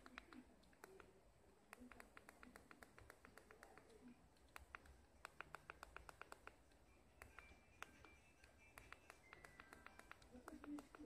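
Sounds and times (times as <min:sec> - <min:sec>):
push buttons clicking: 0:00.0 - 0:11.0.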